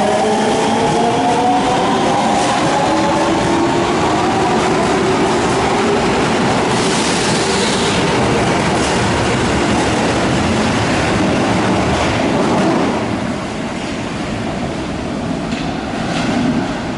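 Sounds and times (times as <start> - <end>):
train rumbling: 0.0 - 16.9.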